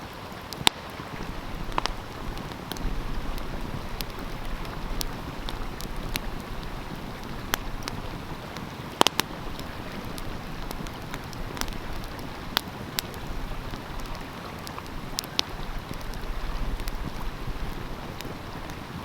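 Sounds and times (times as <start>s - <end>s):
stream flowing: 0.0s - 19.0s
wood fire crackling and popping: 0.0s - 19.0s.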